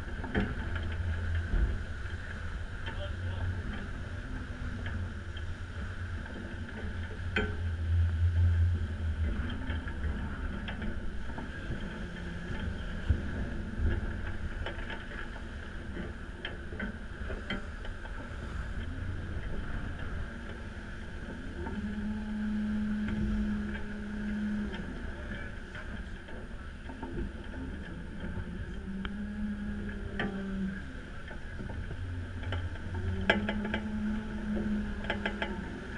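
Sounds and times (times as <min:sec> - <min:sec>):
low steady hum: 0:00.0 - 0:35.9
rushing water: 0:00.0 - 0:35.9.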